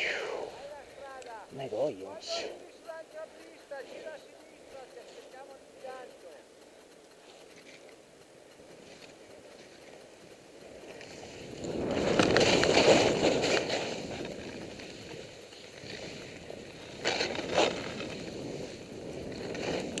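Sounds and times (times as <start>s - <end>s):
skis scraping packed snow: 0.1s - 6.4s, 7.1s - 8.0s, 8.7s - 20.0s.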